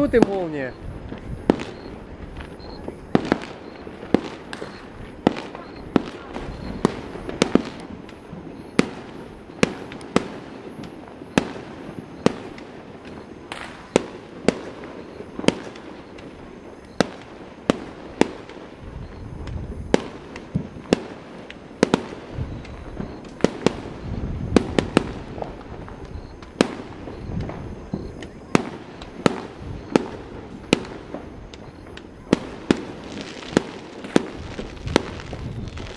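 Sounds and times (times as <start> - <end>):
fireworks cracks and bangs: 0.0 - 35.9.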